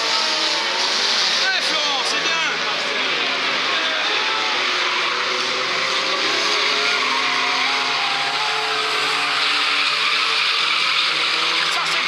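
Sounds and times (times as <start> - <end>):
engine and tyre noise: 0.0 - 12.0
racing car engines revving: 0.0 - 12.0.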